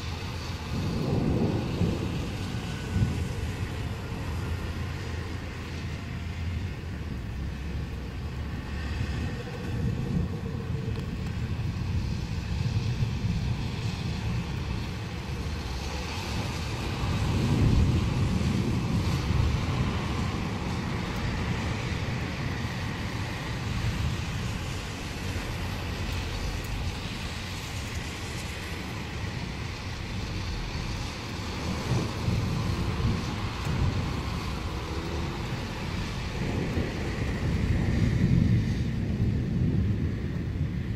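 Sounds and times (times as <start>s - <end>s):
road traffic hiss: 0.0s - 40.9s
distant thunder rumbling: 0.1s - 40.9s.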